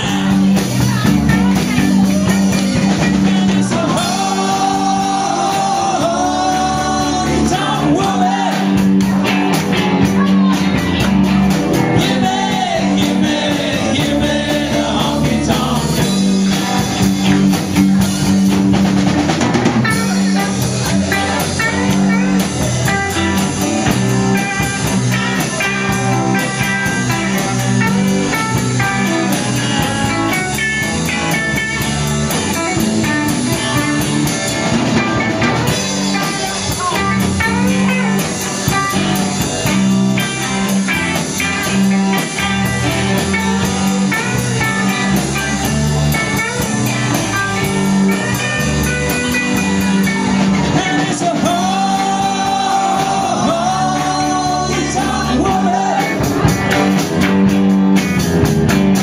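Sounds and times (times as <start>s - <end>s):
instrumental rock band playing: 0.0s - 59.0s.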